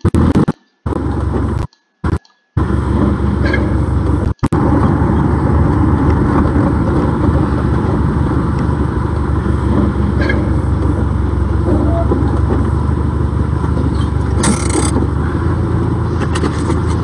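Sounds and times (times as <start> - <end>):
car engine running: 0.0 - 17.0
road rumble: 0.0 - 17.0.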